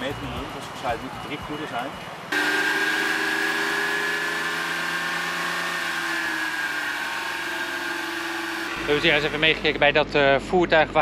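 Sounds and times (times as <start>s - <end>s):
car engine and exhaust running: 2.2s - 11.0s.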